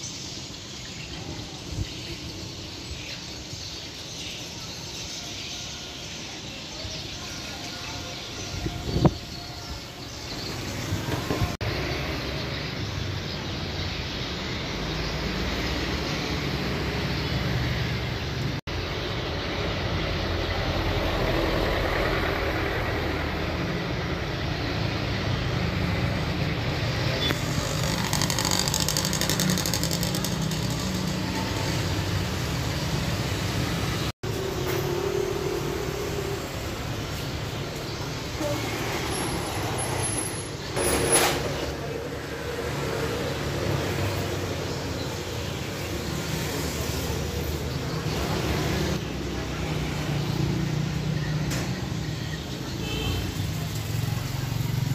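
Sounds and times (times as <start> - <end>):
road traffic with engine rumble: 0.0 - 54.9.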